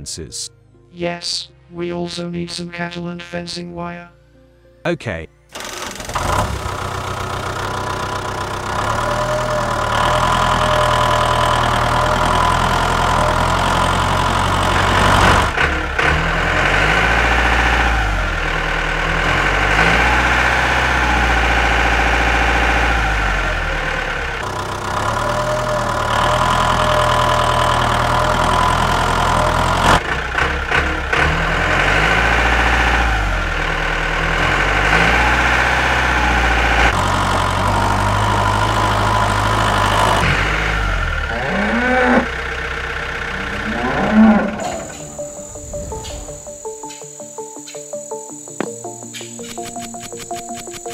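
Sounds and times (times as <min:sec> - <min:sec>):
tractor engine revving: 0:05.5 - 0:46.9.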